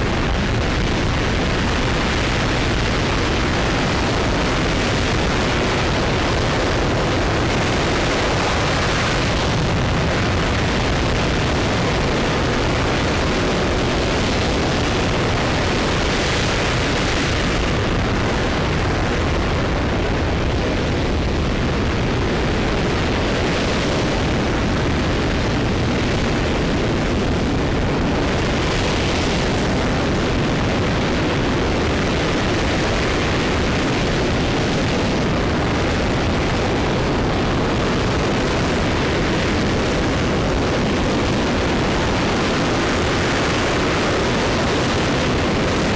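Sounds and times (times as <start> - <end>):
rocket engine roaring: 0.0 - 45.9.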